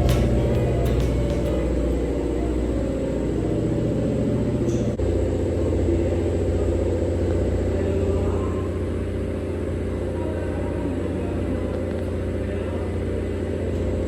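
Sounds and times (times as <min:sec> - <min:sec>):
car engine low rumble: 0:00.0 - 0:14.0.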